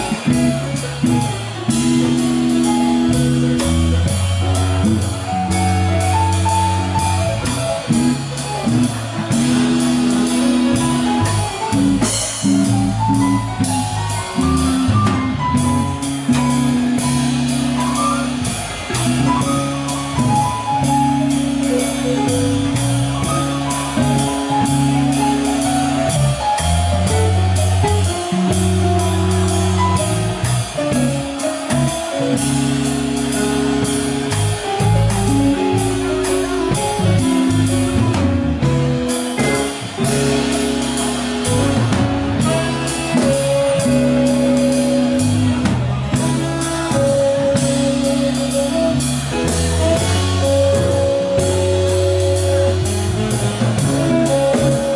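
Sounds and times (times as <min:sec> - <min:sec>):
drum kit: 0:00.0 - 0:54.9
electric guitar: 0:00.0 - 0:54.9.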